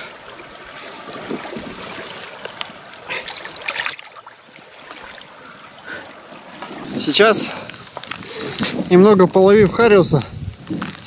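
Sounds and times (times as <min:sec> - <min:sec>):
river running over stones: 0:00.0 - 0:11.0.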